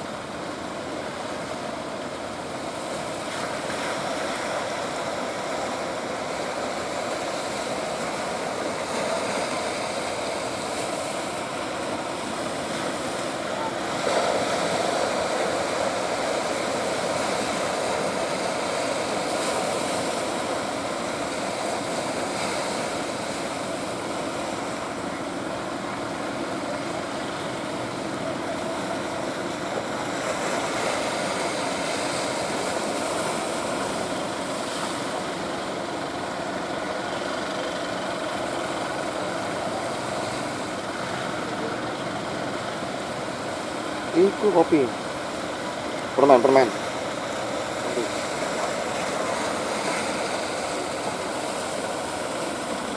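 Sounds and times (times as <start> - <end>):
boat engines droning: 0.0 - 52.9
rough water rushing: 0.0 - 52.9.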